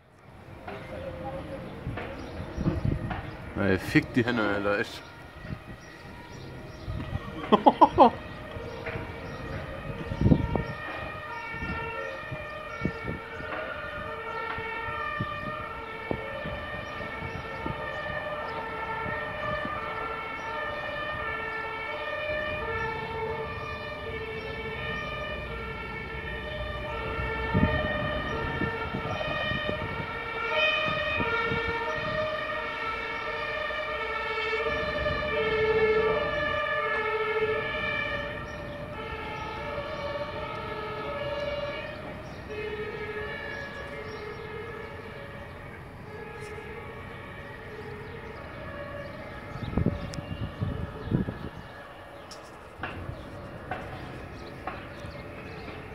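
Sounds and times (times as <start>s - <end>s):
two-tone emergency sirens: 0.0s - 55.9s.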